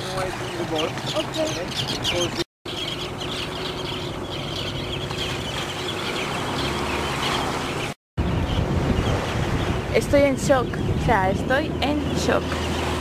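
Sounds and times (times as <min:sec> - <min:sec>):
seabirds calling: 0:00.0 - 0:13.0.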